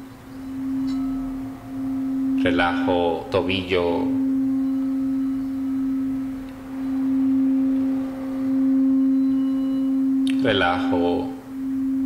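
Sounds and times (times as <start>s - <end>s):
singing bowl steady tone: 0.0s - 12.0s.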